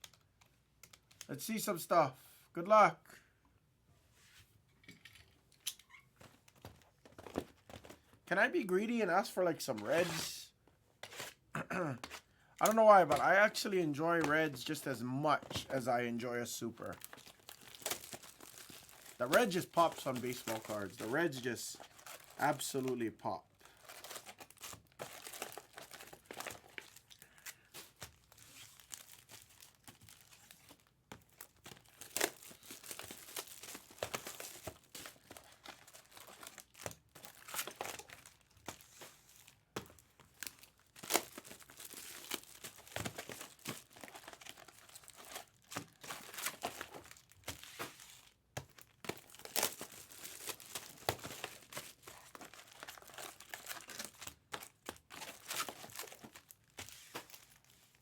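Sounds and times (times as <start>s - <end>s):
foil wrappers crinkling and tearing: 11.0s - 58.0s.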